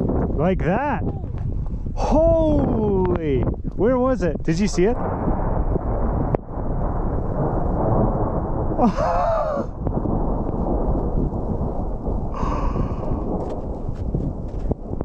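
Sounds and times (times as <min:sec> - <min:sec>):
low rumble of thunder: 0:00.0 - 0:15.0.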